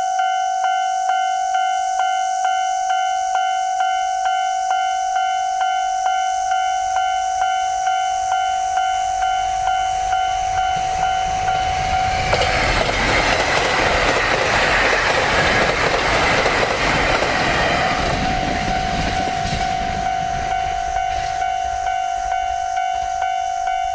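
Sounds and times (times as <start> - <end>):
level-crossing warning bell: 0.0 - 23.9
train passing at speed: 1.9 - 23.9.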